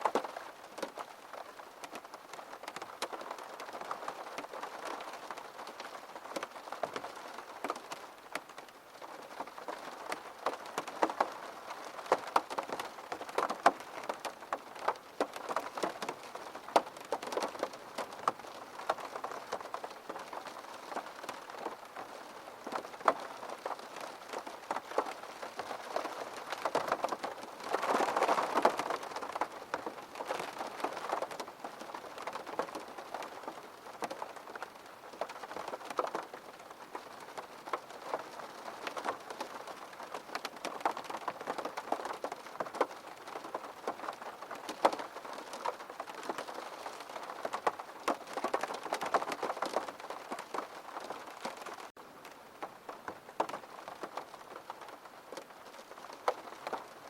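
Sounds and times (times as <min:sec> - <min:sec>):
raindrops clicking close by: 0:00.0 - 0:57.0
steady rain falling: 0:00.0 - 0:57.0.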